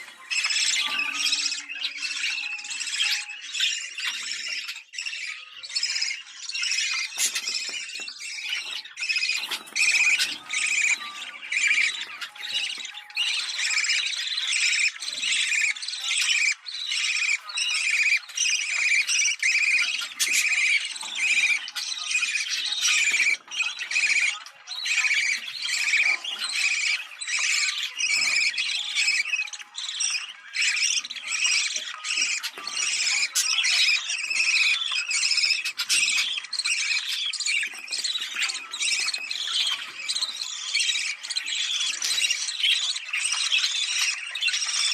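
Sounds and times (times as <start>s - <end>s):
budgerigars chattering: 0.0s - 44.9s.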